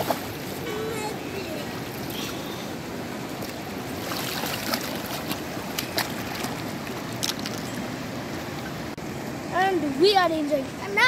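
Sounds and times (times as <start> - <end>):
river running over stones: 0.0 - 11.0.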